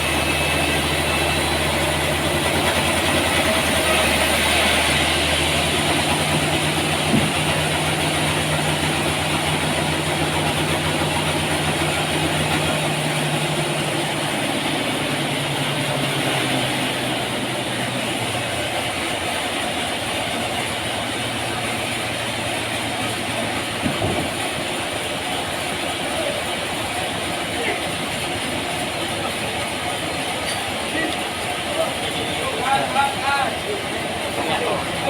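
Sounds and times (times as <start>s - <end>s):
sawmill machinery humming: 0.0s - 35.0s.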